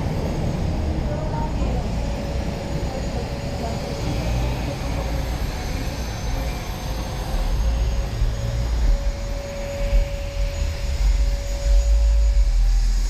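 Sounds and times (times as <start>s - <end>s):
vehicle engine rumbling with whine: 0.0s - 13.0s.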